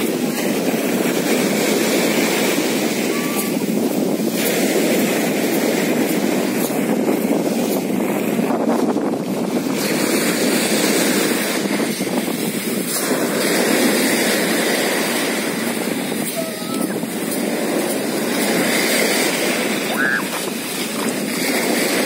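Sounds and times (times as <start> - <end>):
surf waves breaking on beach: 0.0 - 22.0.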